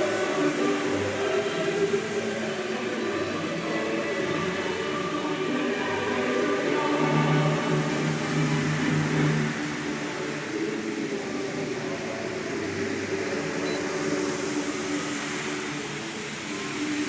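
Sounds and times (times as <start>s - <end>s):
choral music: 0.0s - 17.0s
fountain water jets spraying: 0.0s - 17.0s.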